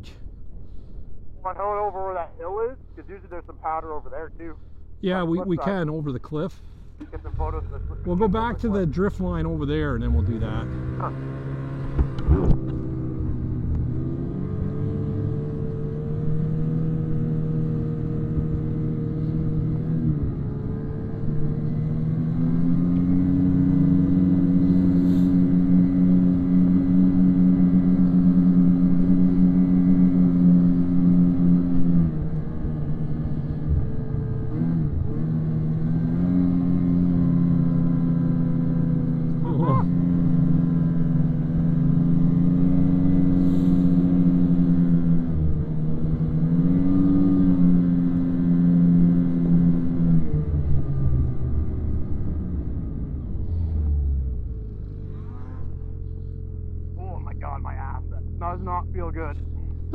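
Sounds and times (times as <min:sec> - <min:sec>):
snowmobile engine at high revs: 0:07.0 - 0:55.9.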